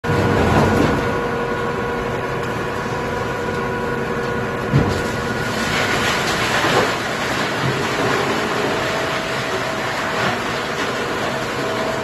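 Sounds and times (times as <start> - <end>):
wood chipper machine whine: 0.1 - 12.0.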